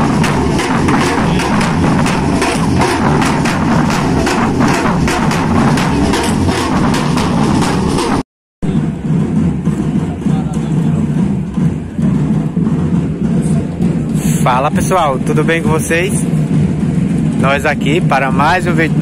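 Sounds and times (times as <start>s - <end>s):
drum group playing fast rhythm: 0.0s - 19.0s.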